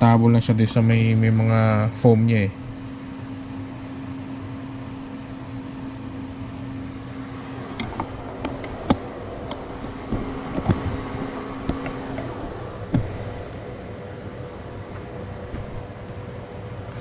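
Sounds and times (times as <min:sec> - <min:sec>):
fan-like hiss: 0:00.0 - 0:17.0
steady low hum: 0:00.0 - 0:17.0.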